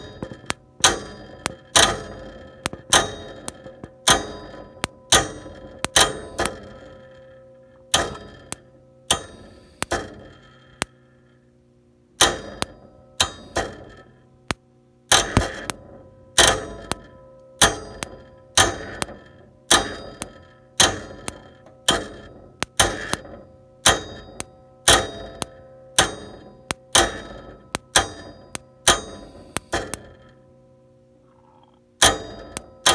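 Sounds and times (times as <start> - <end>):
gas furnace clicking: 0.0 - 11.0, 12.2 - 30.4, 32.0 - 32.9
faint steady hum: 0.0 - 32.9.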